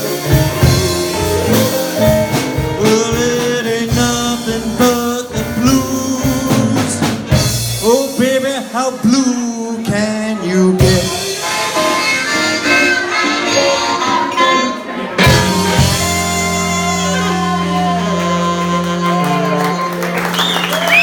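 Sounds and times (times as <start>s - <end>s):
lead guitar licks: 0.0s - 7.9s, 9.2s - 21.0s
live blues band playing: 0.0s - 21.0s.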